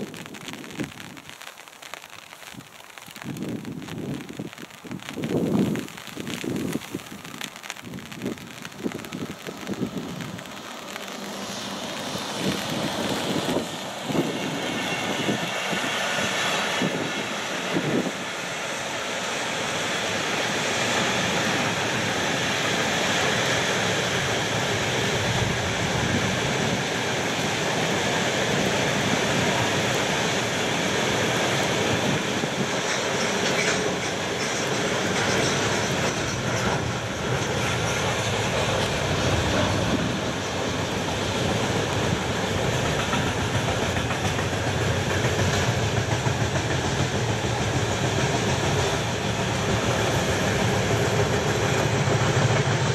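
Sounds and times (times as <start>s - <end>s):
freight train wagons rumbling: 3.2s - 52.9s.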